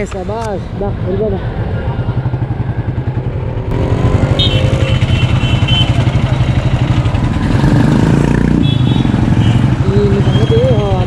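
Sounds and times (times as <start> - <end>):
motorcycle engine running: 0.3 - 11.0.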